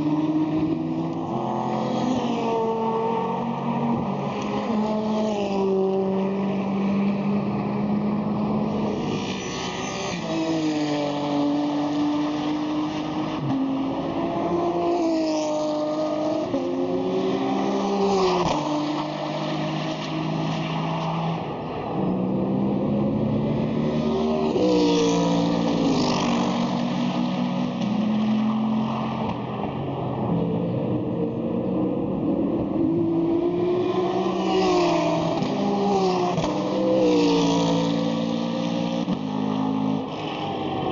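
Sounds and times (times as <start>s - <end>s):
racing cars passing: 0.0s - 40.9s.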